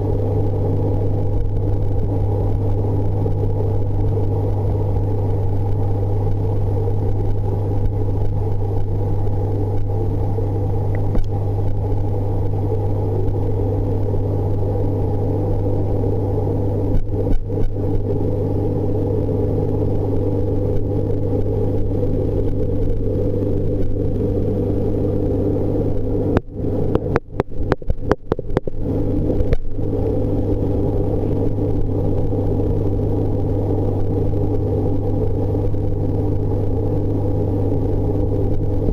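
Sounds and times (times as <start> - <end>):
aquarium pump mains hum: 0.0 - 38.9.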